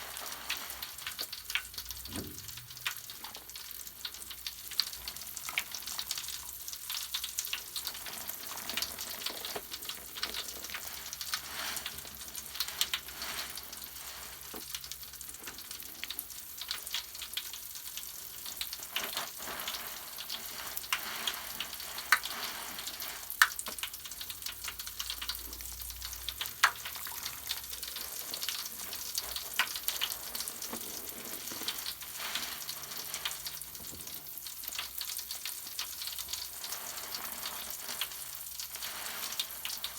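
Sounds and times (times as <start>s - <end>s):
bubble bath foam crackling: 0.0s - 39.9s.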